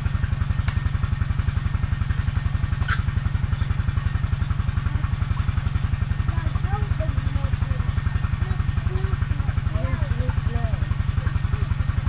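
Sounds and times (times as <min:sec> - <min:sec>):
diesel engine thumping: 0:00.0 - 0:12.0.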